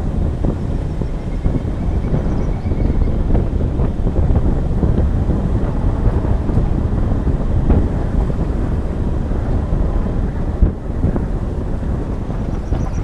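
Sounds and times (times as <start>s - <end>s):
vehicle rolling on dirt road: 0.0s - 13.0s
wind rumbling on microphone: 0.0s - 13.0s.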